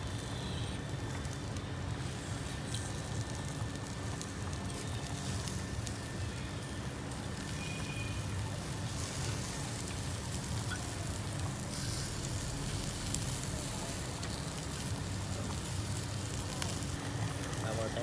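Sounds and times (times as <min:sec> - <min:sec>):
fish sizzling on a grill: 0:00.0 - 0:18.0.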